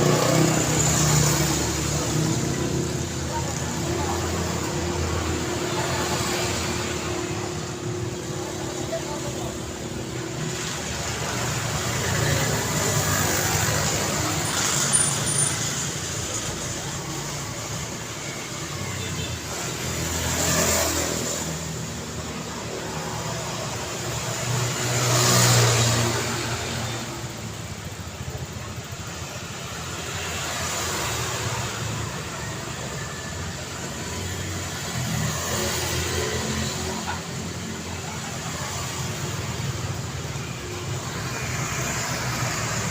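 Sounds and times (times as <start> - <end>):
steady road hum: 0.0 - 42.9
vehicles passing: 0.0 - 42.9.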